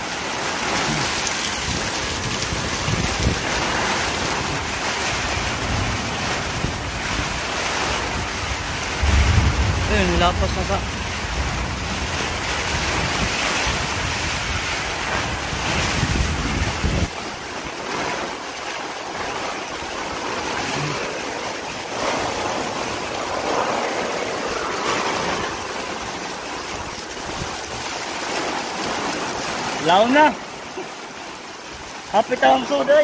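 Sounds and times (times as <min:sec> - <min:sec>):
heavy rain: 0:00.0 - 0:33.0
wind gusts buffeting microphone: 0:00.4 - 0:18.0, 0:19.1 - 0:30.3.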